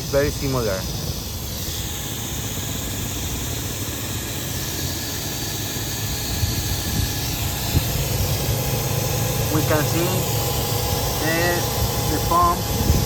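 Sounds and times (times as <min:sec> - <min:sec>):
drone sprayer hissing: 0:00.0 - 0:13.0
low running noise: 0:00.0 - 0:13.0.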